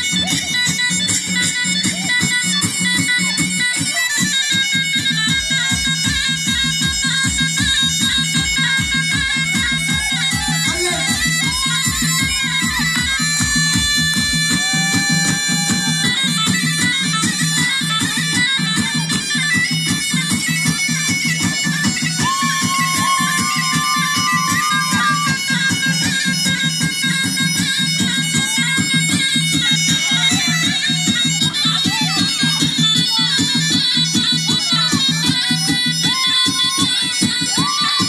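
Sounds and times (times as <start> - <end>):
bagpipe playing lively dance music: 0.0 - 38.0.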